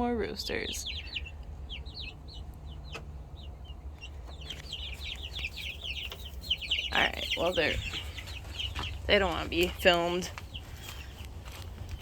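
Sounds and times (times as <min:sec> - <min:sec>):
chicks chirping and clucking: 0:00.0 - 0:12.0.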